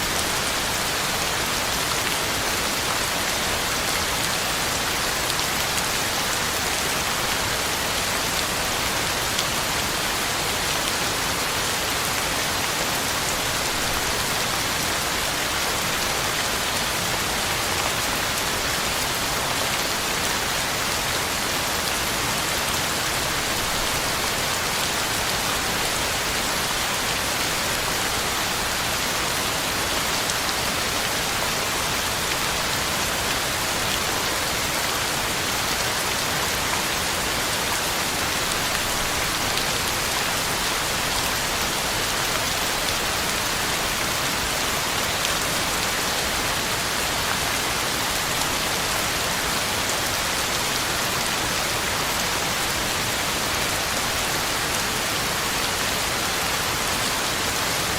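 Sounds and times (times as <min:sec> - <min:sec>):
heavy rain on ground and leaves: 0:00.0 - 0:57.9.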